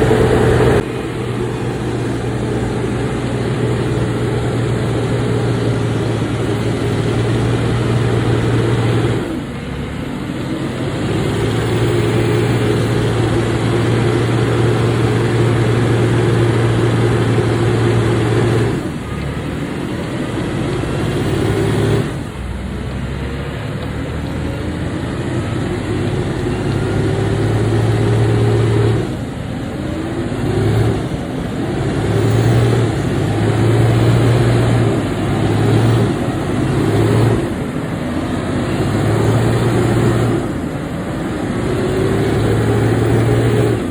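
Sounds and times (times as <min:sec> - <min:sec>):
heavy truck engine under load: 0:00.0 - 0:43.9.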